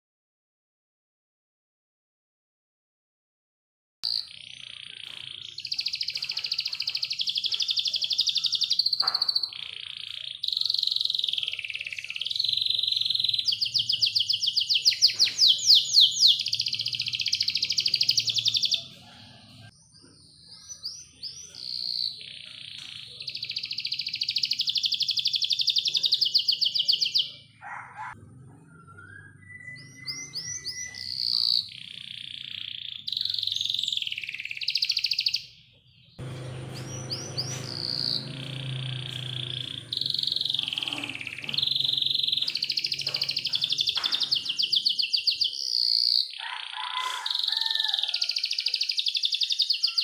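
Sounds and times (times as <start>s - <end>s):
canary singing trilled rolls: 4.0s - 35.6s, 36.2s - 50.0s.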